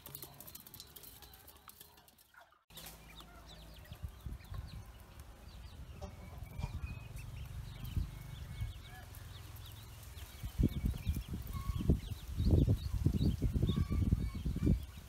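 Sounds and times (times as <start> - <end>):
ducklings peeping: 2.2 - 15.0.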